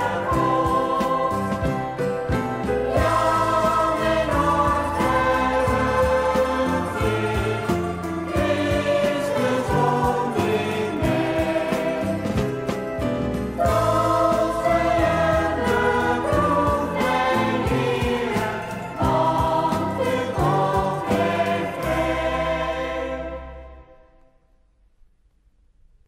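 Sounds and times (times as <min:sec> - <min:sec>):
backing band: 0:00.0 - 0:23.8
choir singing gospel: 0:00.0 - 0:24.0.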